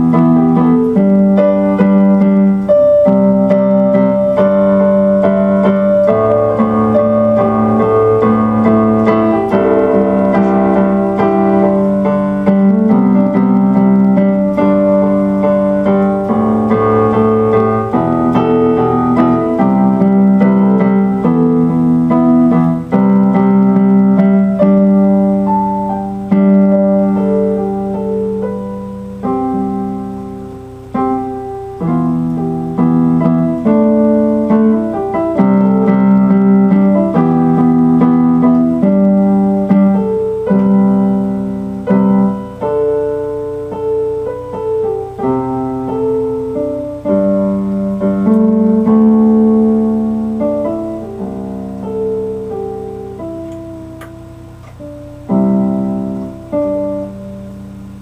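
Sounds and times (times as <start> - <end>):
piano-like keyboard chords: 0.0 - 58.0.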